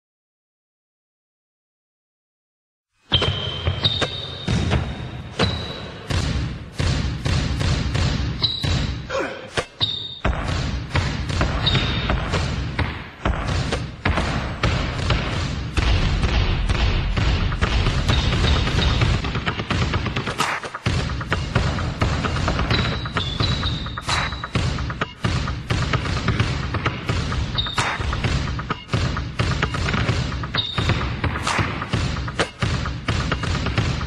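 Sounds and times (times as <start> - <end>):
basketballs bouncing on hard floor: 3.1 - 9.1, 9.8 - 34.0.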